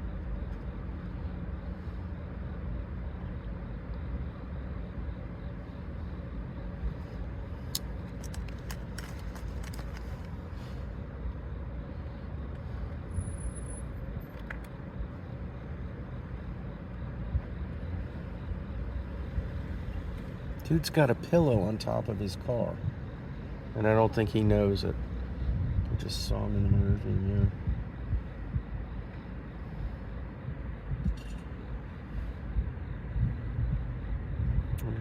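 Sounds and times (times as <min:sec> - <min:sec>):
low vehicle rumble: 0:00.0 - 0:35.0.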